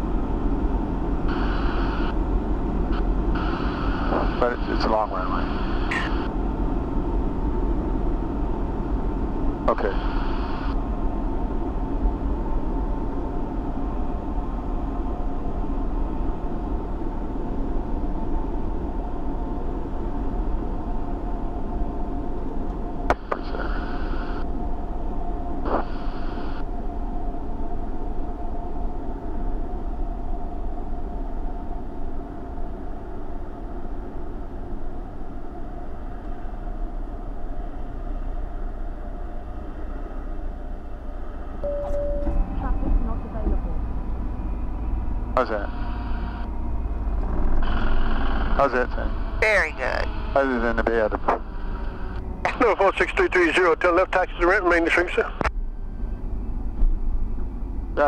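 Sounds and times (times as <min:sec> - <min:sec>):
propeller aircraft engine droning: 0:00.0 - 0:58.0.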